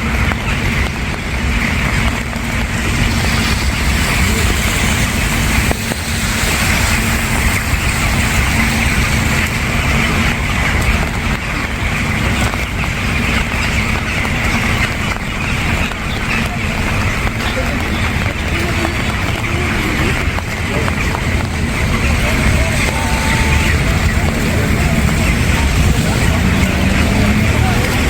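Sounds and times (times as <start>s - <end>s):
constant low rumble: 0.0s - 28.0s
steady rain hiss: 0.0s - 28.0s.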